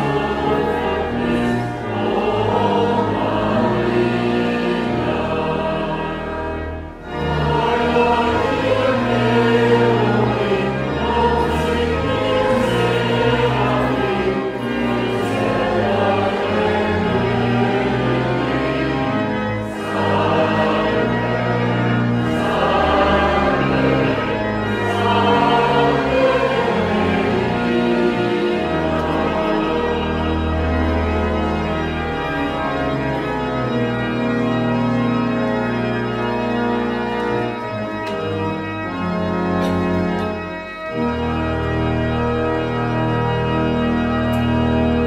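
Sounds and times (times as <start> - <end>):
church organ chords: 0.0 - 45.0
congregation singing: 0.0 - 45.0.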